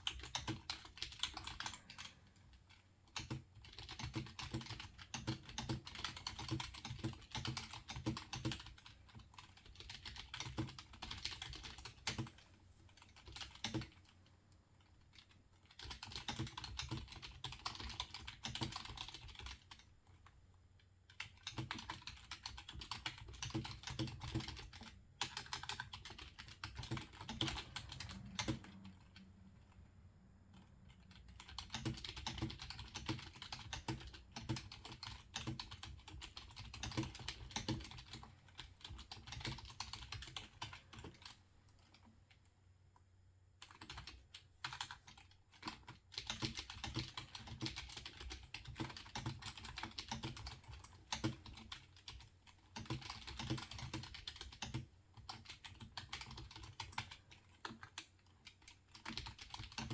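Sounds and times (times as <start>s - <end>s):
typing on a keyboard: 0.0s - 14.2s, 14.8s - 29.8s, 30.5s - 42.5s, 43.6s - 59.9s.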